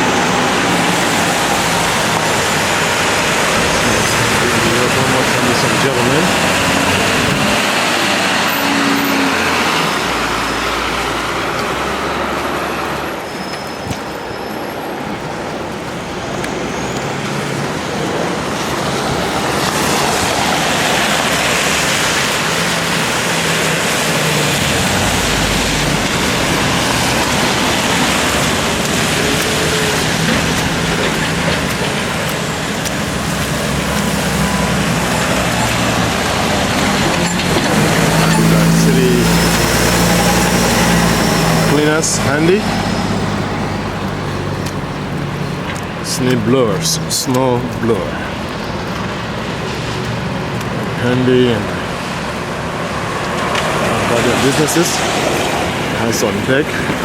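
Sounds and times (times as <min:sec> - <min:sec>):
street traffic passing: 0:00.0 - 0:57.0.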